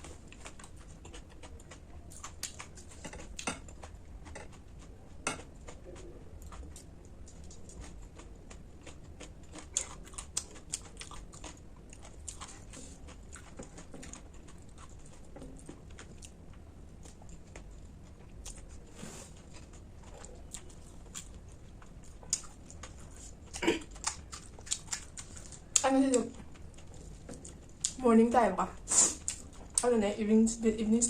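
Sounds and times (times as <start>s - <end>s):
crunching and chewing food: 0.0s - 30.0s.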